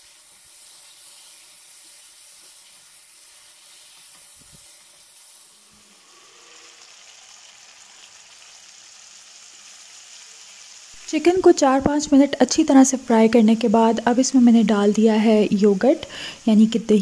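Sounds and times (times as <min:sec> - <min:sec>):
chicken sizzling in a wok: 0:00.0 - 0:17.0.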